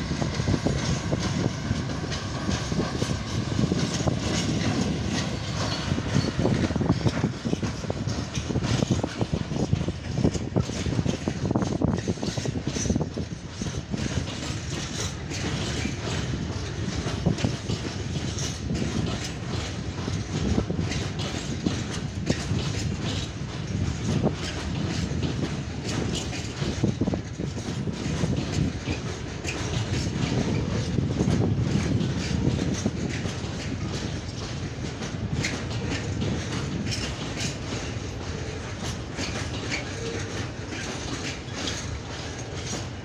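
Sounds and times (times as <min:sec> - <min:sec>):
rumble of wheels on rail: 0:00.0 - 0:43.0
wheels clacking over rail joints: 0:00.0 - 0:43.0.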